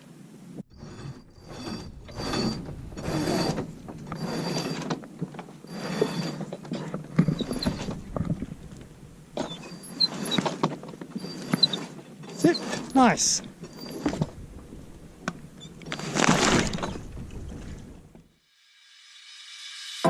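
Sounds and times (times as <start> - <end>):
winch ratcheting: 1.0 - 17.8.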